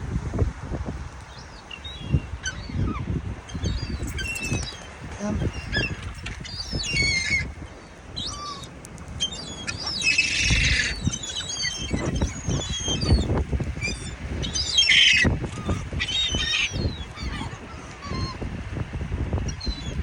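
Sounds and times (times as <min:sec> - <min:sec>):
gulls squawking: 0:01.4 - 0:18.5.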